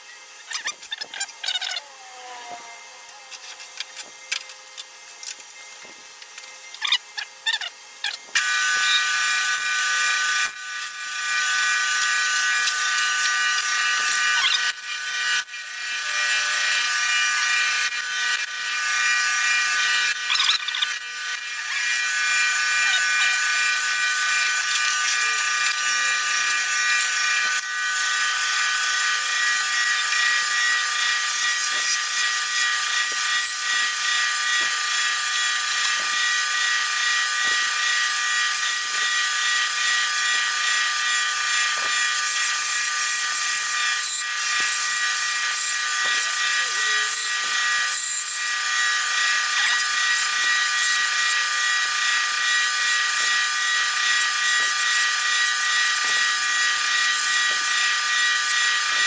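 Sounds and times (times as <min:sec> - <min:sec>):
sped-up lathe high whine: 0:00.0 - 0:59.0.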